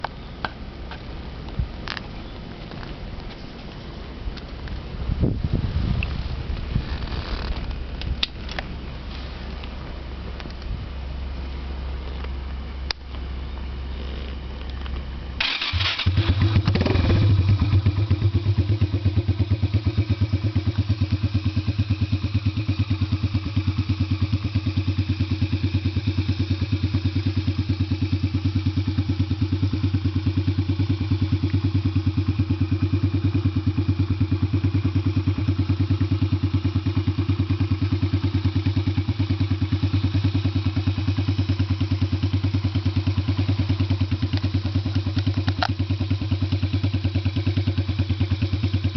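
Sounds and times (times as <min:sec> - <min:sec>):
motorcycle engine starting and idling: 0:00.0 - 0:48.9.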